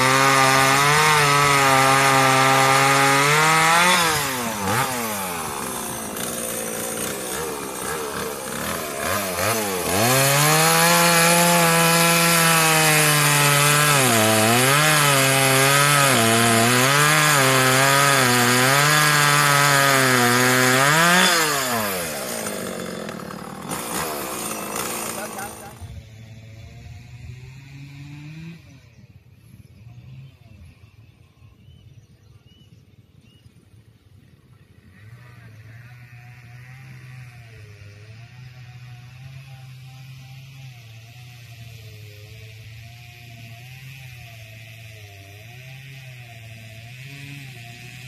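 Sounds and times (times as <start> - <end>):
chainsaw cutting wood: 0.0 - 29.0, 34.8 - 48.0.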